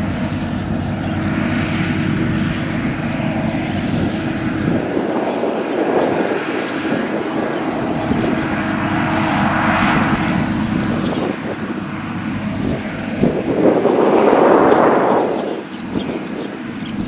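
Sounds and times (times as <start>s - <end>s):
combine harvester droning: 0.0s - 17.0s
thin high whine: 0.0s - 17.0s.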